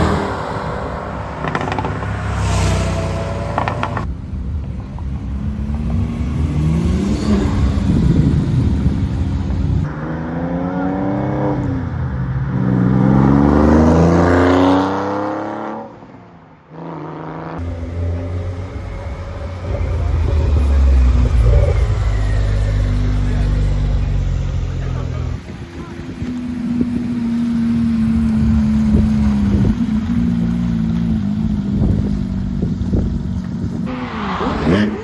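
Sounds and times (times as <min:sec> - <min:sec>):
sports car engines revving: 0:00.0 - 0:15.9, 0:17.4 - 0:35.0.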